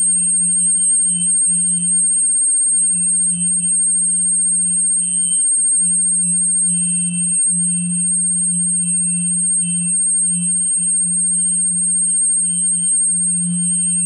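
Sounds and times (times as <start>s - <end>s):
faint flickering high tones: 0.0s - 14.0s
high-pitched whine: 0.0s - 14.0s
low electronic hum: 0.0s - 14.0s.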